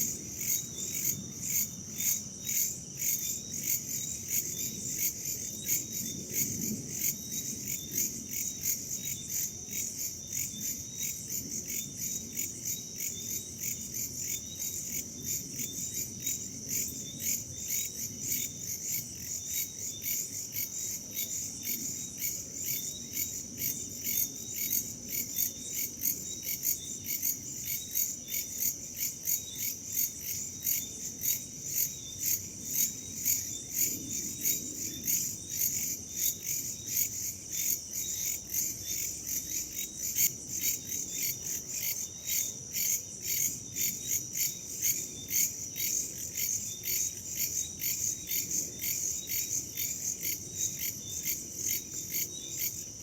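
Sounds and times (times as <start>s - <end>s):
crickets and insects chirping: 0.0s - 53.0s.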